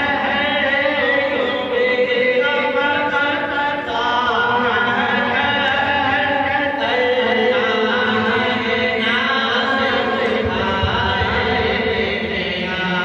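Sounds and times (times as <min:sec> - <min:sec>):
man chanting devotional poem: 0:00.0 - 0:13.0.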